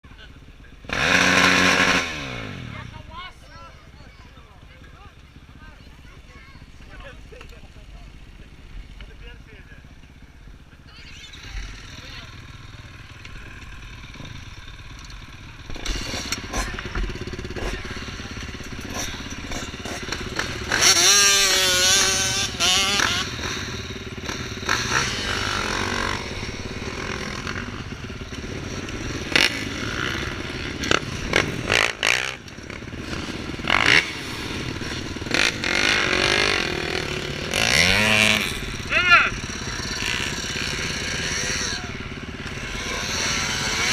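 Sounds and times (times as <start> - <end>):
motocross bike engines revving: 0.1 - 43.9.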